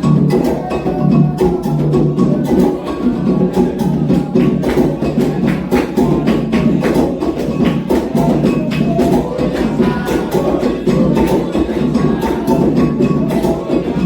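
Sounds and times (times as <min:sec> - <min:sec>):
agogo bell: 0:00.0 - 0:14.0
hand drums playing fast rhythm: 0:00.0 - 0:14.0.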